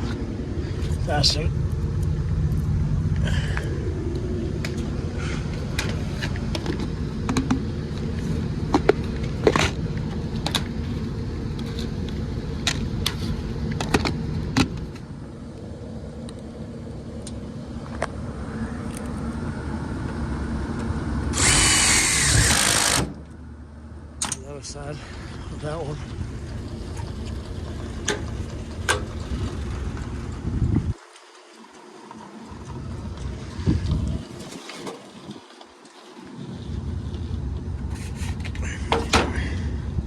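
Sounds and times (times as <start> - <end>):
machinery hum: 0.0 - 40.0.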